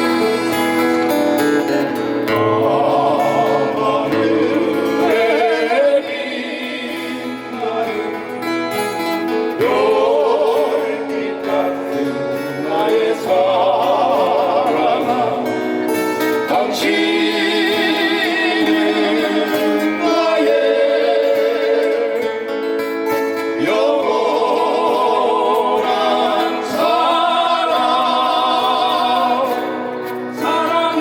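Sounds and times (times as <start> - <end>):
acoustic guitar chords: 0.0 - 31.0.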